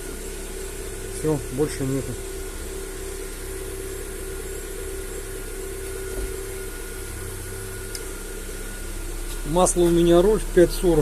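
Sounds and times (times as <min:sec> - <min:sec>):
petrol engine idling: 0:00.0 - 0:11.0.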